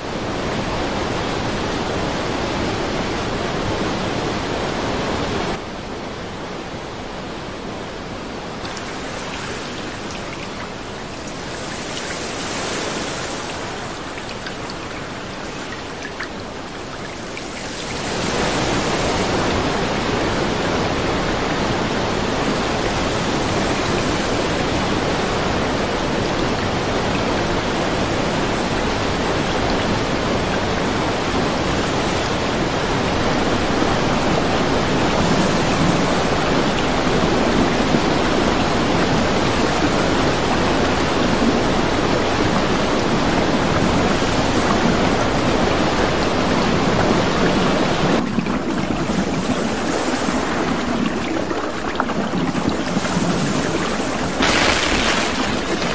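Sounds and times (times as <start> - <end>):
floodwater rushing: 0.0 - 55.9.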